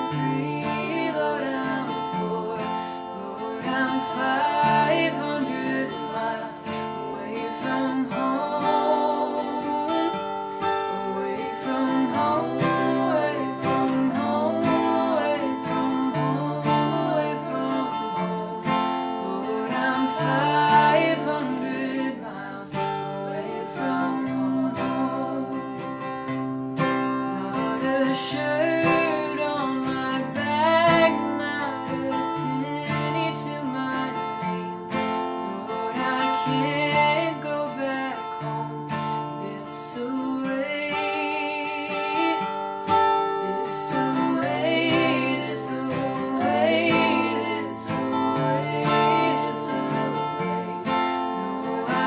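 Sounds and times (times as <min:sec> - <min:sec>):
acoustic guitar strumming melody: 0:00.0 - 0:52.0.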